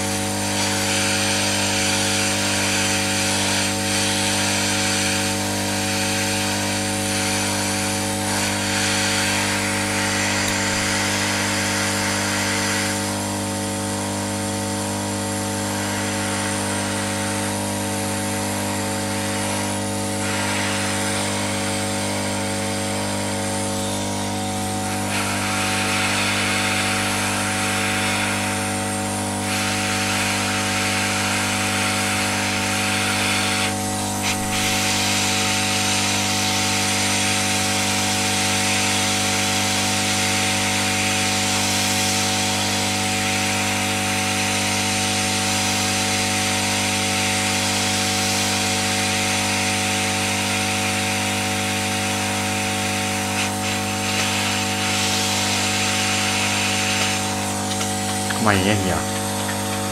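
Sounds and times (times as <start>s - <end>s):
fan motor hum: 0.0s - 47.4s, 51.8s - 59.9s
hot-air gun blowing: 0.0s - 59.9s.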